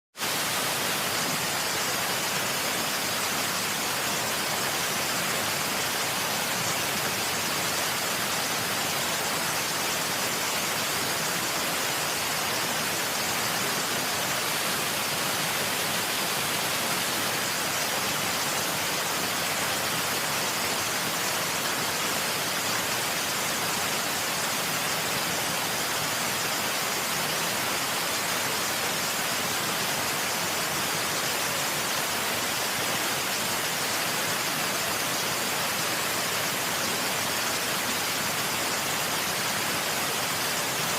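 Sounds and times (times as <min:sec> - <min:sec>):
waterfall rushing: 0:00.2 - 0:40.9.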